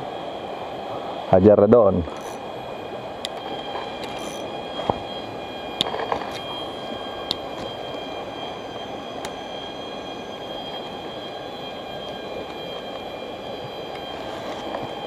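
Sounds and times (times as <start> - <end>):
faint steady high tone: 0.0 - 15.0.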